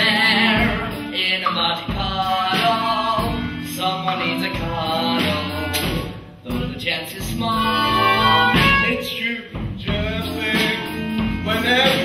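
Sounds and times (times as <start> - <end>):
instrumental accompaniment: 0.0 - 12.0
person singing: 0.0 - 12.0.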